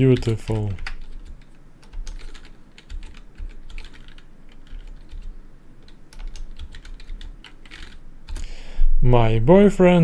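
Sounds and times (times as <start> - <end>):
keyboard keystrokes clicking: 0.1 - 8.4.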